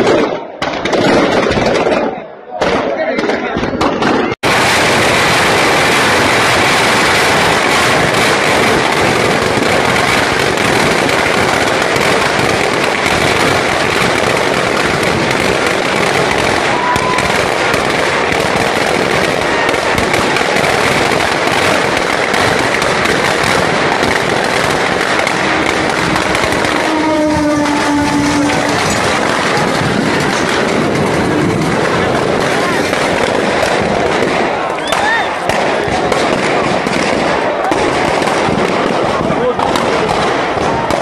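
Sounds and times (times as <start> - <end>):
firecrackers crackling and popping: 0.0 - 41.0.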